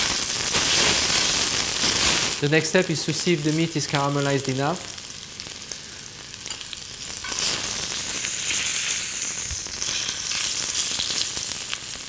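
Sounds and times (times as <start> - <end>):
steak sizzling in hot oil: 0.0 - 2.4, 3.0 - 12.0.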